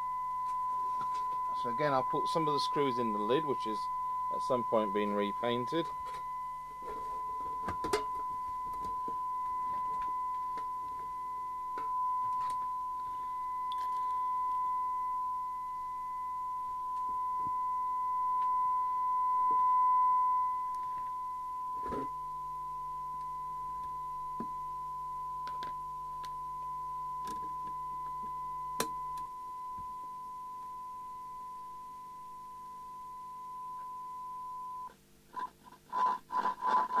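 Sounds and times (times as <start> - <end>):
high-pitched pure tone: 0.0 - 34.9.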